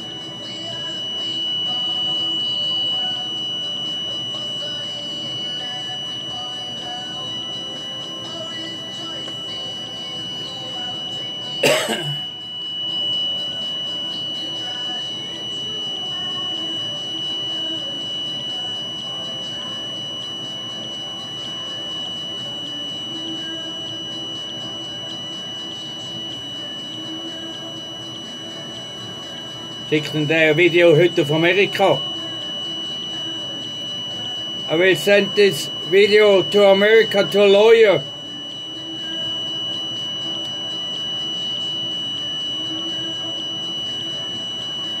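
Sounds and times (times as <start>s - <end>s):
high-pitched electronic tone: 0.0s - 45.0s.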